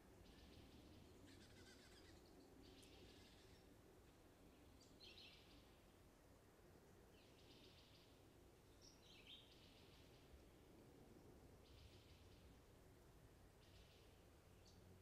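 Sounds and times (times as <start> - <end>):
songbird singing: 0.0 - 6.0, 7.0 - 10.5, 11.5 - 12.7, 13.5 - 15.0.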